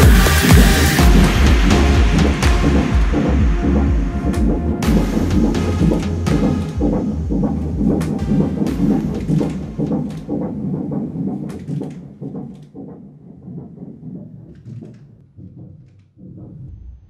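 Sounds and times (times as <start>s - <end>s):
fetal heartbeat on doppler: 0.0s - 16.8s.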